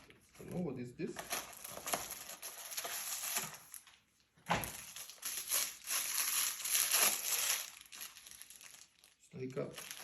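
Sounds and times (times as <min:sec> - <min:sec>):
plastic packaging crinkling and tearing: 0:01.2 - 0:10.0.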